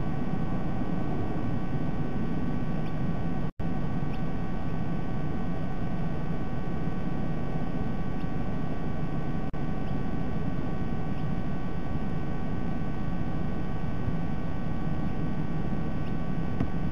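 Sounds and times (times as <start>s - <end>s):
faint constant whine tones: 0.0s - 16.9s
microphone hum and hiss: 0.0s - 16.9s.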